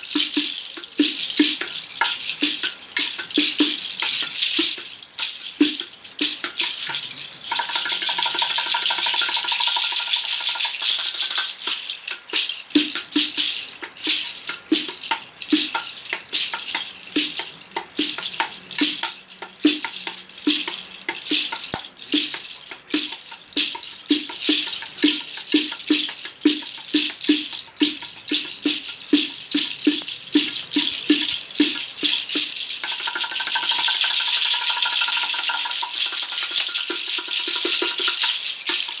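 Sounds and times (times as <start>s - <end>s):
shaken rattle: 0.0s - 39.0s.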